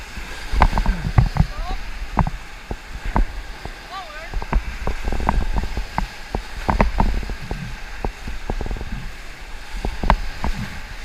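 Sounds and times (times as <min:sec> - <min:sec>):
paddles splashing in water: 0:00.0 - 0:11.0
whitewater rapids rushing: 0:00.0 - 0:11.0
wind rumble on microphone: 0:00.0 - 0:11.0.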